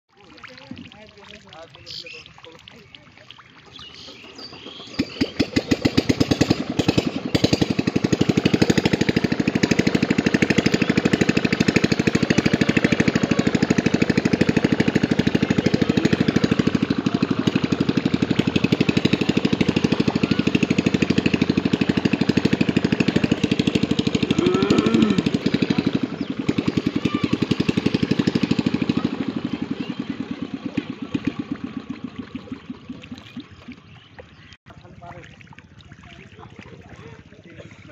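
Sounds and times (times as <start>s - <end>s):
small engine running: 0.2s - 34.5s.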